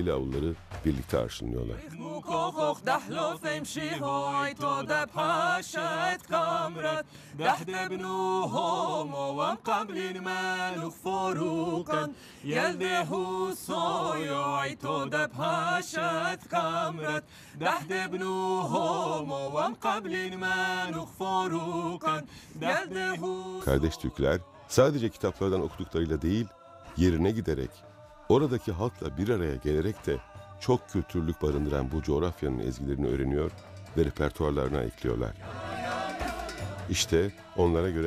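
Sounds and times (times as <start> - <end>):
group singing a cappella: 1.8 - 38.0.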